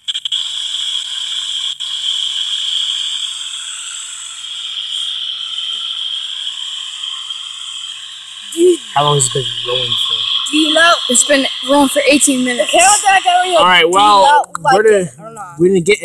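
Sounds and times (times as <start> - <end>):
frogs calling: 2.3 - 15.2.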